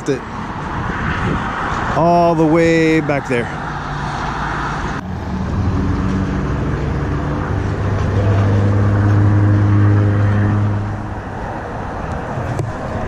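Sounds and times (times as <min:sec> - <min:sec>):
vehicle passing on highway: 0:00.0 - 0:13.0.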